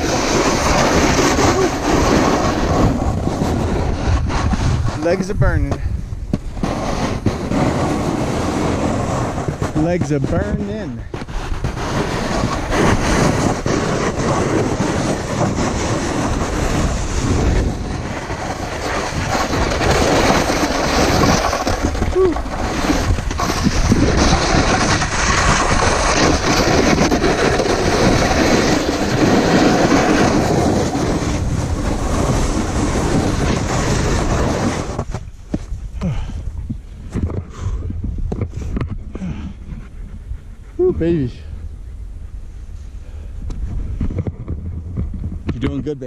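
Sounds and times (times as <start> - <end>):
snowboard scraping over snow: 0.0 - 39.9, 40.8 - 41.6.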